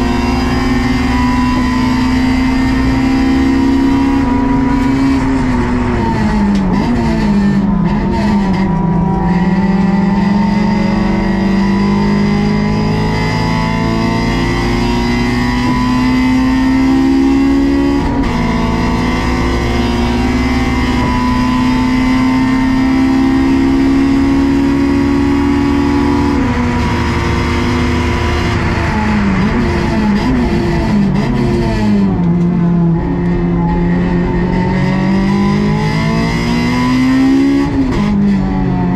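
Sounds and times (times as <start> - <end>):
car engine revving on track: 0.0 - 38.9.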